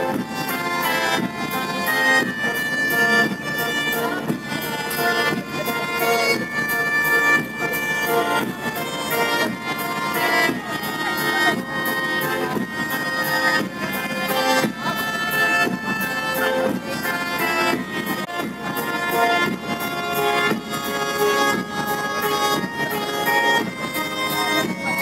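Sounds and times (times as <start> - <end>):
music with steady beat: 0.0 - 25.0.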